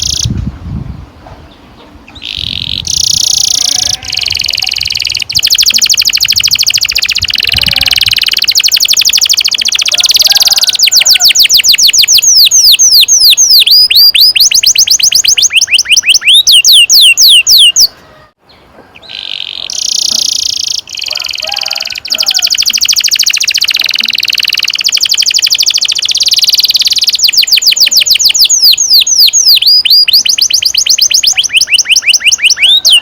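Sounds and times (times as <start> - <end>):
canary singing: 0.0 - 0.3, 1.5 - 33.0.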